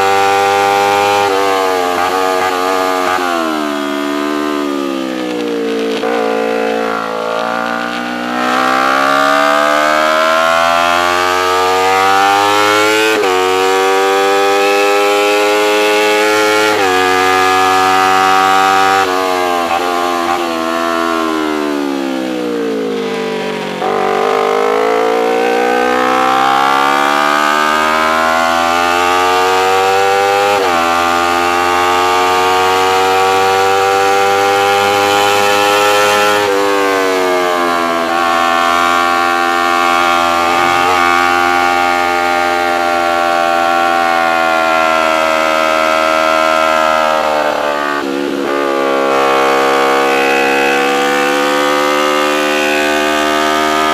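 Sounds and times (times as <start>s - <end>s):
racing motorcycle engine revving: 0.0s - 53.9s.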